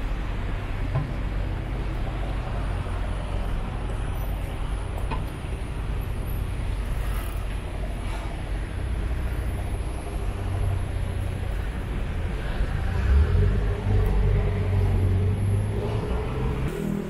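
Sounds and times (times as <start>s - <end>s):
car engines passing: 0.0s - 17.0s.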